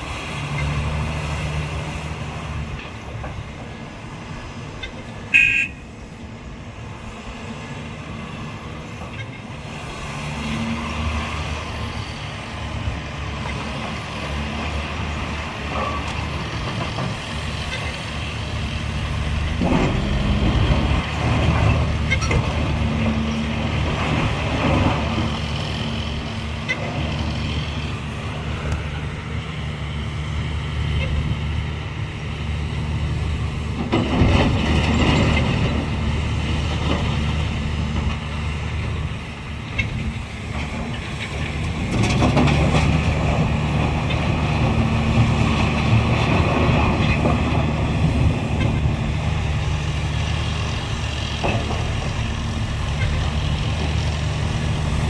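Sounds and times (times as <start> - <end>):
excavator diesel engine working: 0.0 - 55.0.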